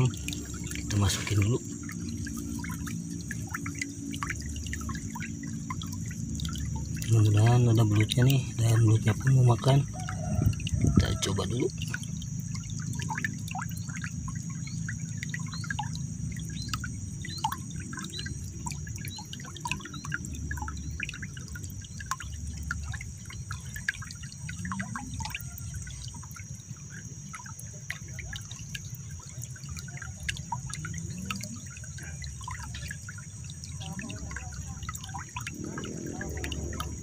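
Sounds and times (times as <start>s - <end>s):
low steady rumble: 0.0s - 37.0s
water trickling and dripping: 0.0s - 37.0s.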